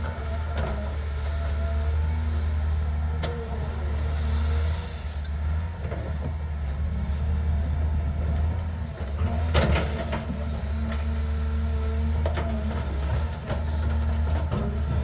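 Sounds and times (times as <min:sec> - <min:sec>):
large engine rumbling: 0:00.0 - 0:15.0.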